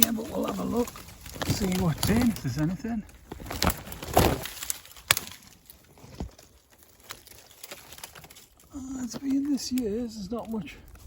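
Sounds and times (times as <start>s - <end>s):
branches rustling and snapping: 0.0s - 11.0s.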